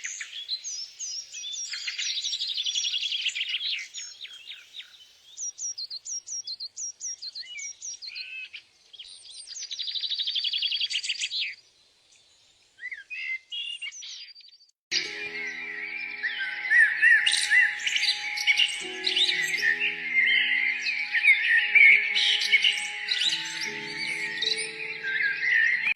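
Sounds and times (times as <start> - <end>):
small songbirds chirping and trilling: 0.0 - 25.9.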